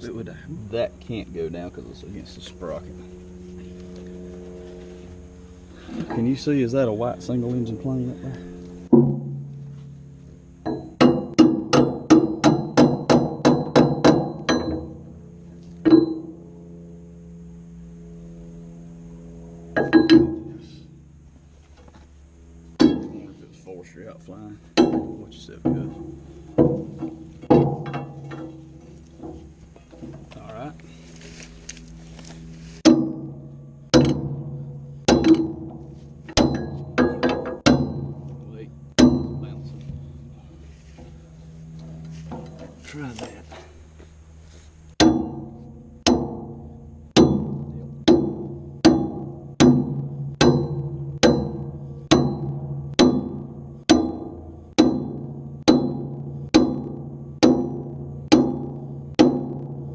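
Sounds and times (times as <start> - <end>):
steady low hum: 0.0 - 59.9
hammer blows on ringing steel: 5.6 - 16.6, 19.0 - 21.1, 22.7 - 31.2, 32.8 - 59.6.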